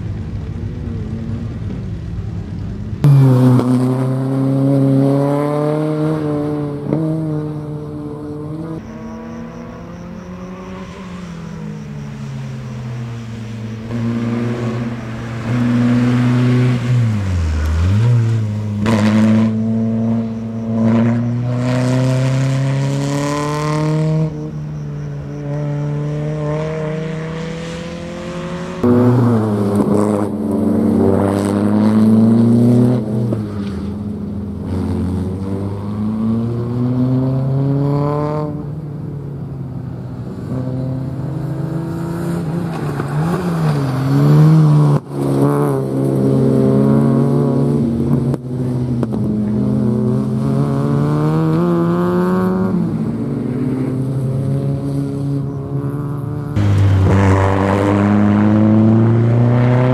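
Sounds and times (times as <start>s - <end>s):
car engine revving: 2.9s - 38.8s, 40.4s - 59.9s.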